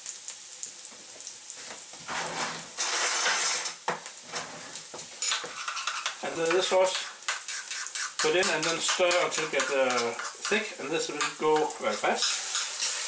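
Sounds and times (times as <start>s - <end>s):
stir-fry sizzling in a wok: 0.0s - 13.0s.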